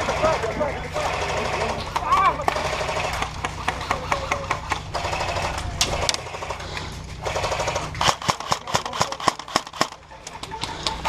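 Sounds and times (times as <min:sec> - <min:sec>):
airsoft guns firing: 0:00.0 - 0:10.6.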